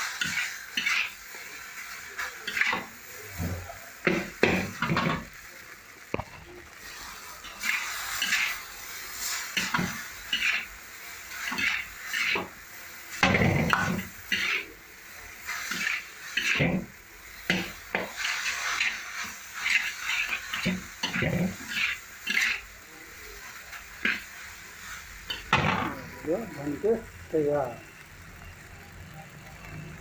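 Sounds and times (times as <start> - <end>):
spatula scraping and clanking in wok: 0.0 - 5.4, 6.1 - 26.1.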